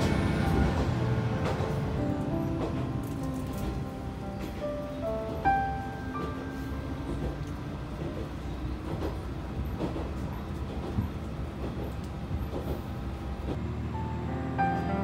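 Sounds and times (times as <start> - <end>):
railcar engine and wheels rumbling: 0.0 - 15.0.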